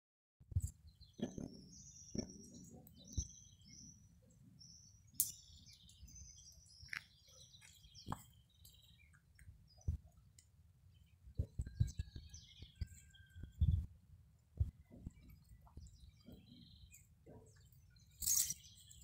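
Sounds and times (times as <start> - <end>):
small birds chirping: 0.5 - 19.0.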